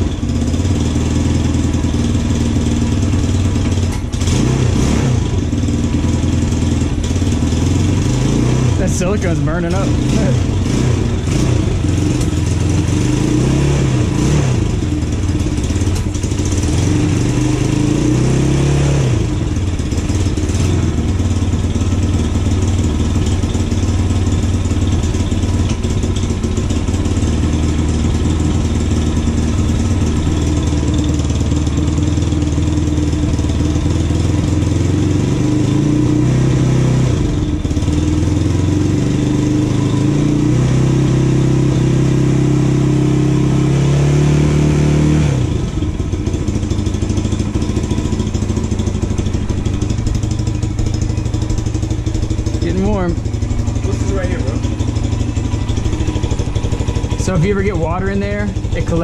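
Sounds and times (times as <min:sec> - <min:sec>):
atv engine revving and idling: 0:00.0 - 0:59.0.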